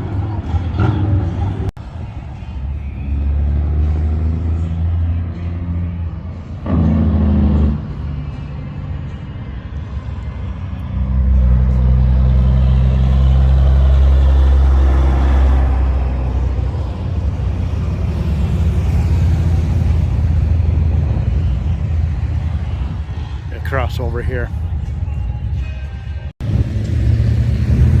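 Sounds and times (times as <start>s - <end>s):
vehicle engines humming: 0.0s - 28.0s.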